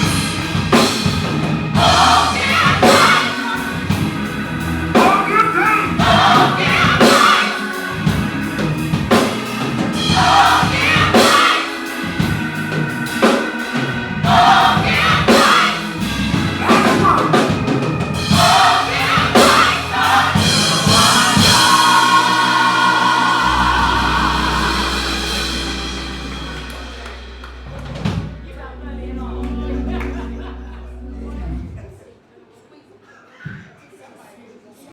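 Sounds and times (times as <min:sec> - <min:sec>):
drum kit and band: 0:00.0 - 0:31.8
gospel choir singing: 0:00.0 - 0:32.0.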